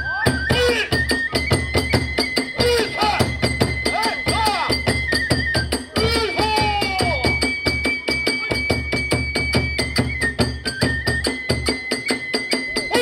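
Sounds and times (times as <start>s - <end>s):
bamboo flute: 0.0s - 13.0s
drums beating: 0.0s - 13.0s
hand cymbals clashing: 0.5s - 13.0s.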